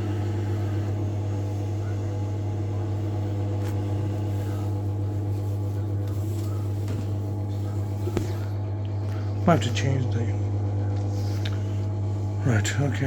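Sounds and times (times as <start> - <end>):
boiler humming: 0.0 - 13.0.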